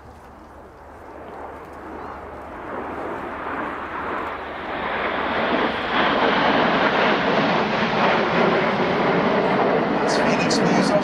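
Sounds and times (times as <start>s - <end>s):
jet roar: 0.0s - 11.0s.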